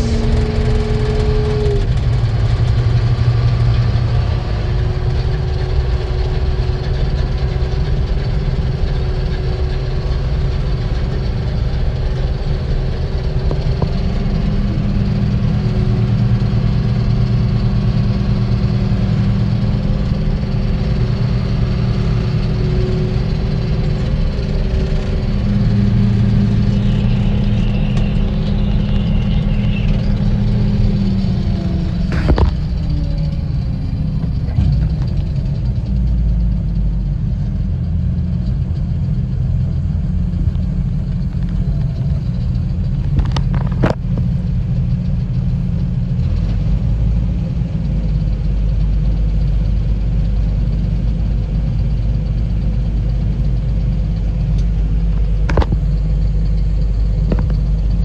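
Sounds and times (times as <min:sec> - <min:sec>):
farm machinery engine running: 0:00.0 - 0:58.0.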